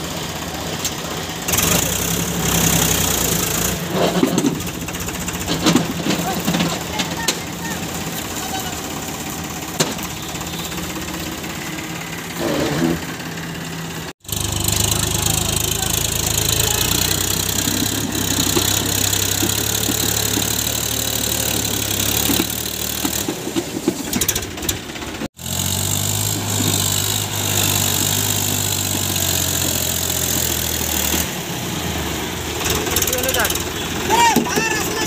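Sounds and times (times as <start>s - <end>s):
diesel tractor engine running: 0.0s - 35.0s
irregular engine knocking: 0.3s - 26.0s, 32.6s - 35.0s.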